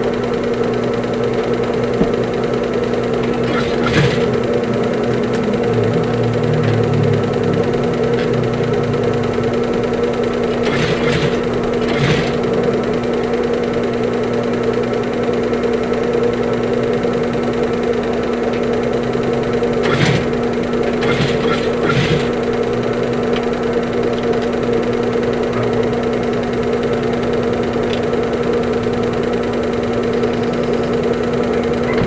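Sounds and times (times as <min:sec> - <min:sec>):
sewing machine humming: 0:00.0 - 0:32.0.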